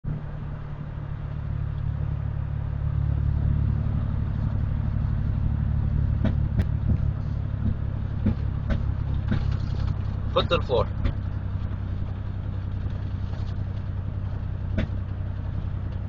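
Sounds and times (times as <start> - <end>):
misfiring engine running: 0.0 - 16.0.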